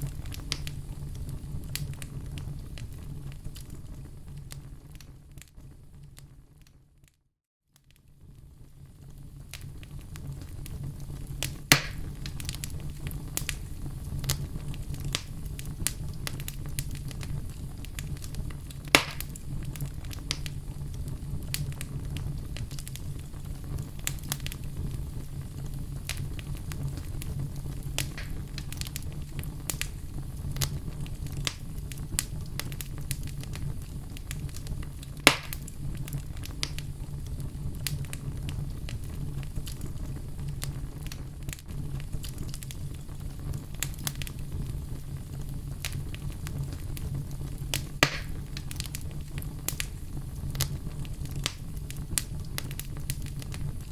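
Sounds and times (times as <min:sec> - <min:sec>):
sharp fire pops: 0:00.0 - 0:06.7, 0:07.8 - 0:53.9
wood fire crackling: 0:00.0 - 0:07.2, 0:07.8 - 0:53.9.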